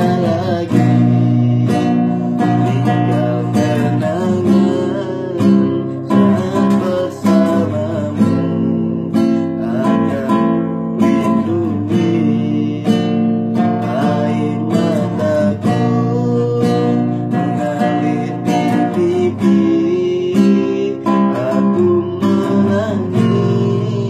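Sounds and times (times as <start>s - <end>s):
acoustic guitar strummed chords: 0.0s - 24.0s
young man singing: 0.0s - 24.0s.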